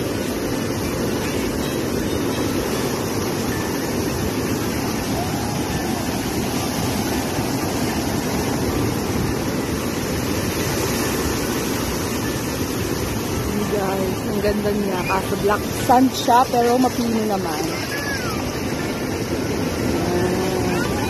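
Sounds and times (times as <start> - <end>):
surf breaking on a beach: 0.0 - 21.0.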